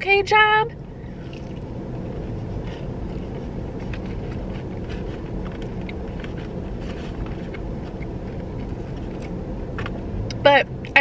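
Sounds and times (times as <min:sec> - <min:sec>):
car idling hum: 0:00.0 - 0:11.0.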